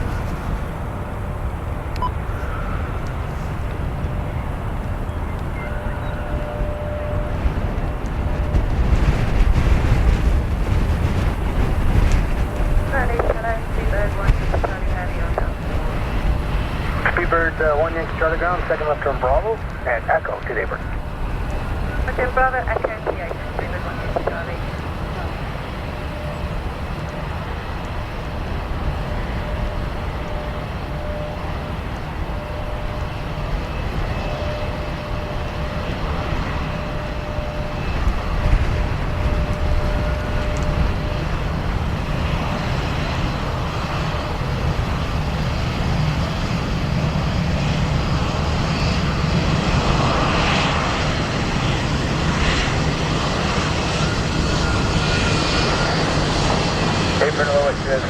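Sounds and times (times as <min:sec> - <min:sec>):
airliner engines rumbling: 0:00.0 - 0:58.0
thin steady whine: 0:00.0 - 0:58.0.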